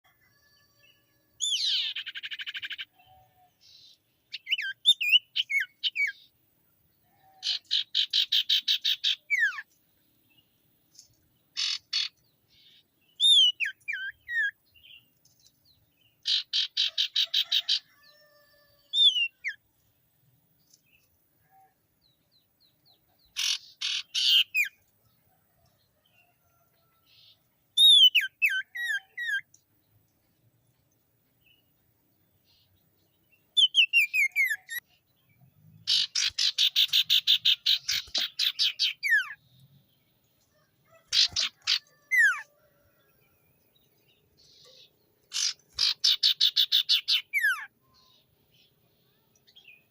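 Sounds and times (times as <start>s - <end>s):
bird singing rapid repeated notes: 1.3s - 17.9s, 18.9s - 19.6s, 22.1s - 25.2s, 27.2s - 42.5s, 43.4s - 49.9s.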